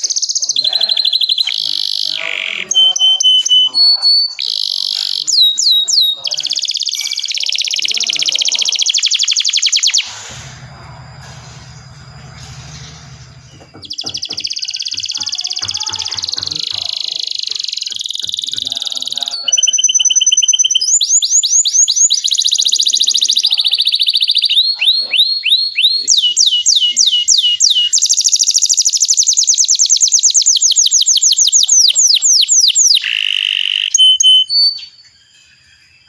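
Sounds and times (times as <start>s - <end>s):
canary singing trills: 0.0s - 36.0s.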